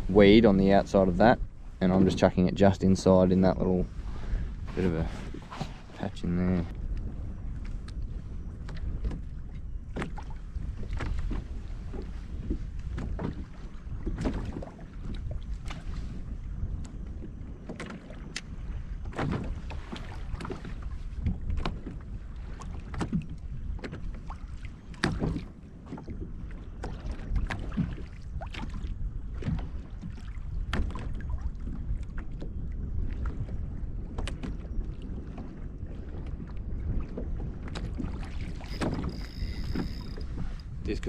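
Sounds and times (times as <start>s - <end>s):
waves lapping against kayak hull: 0.0s - 41.0s.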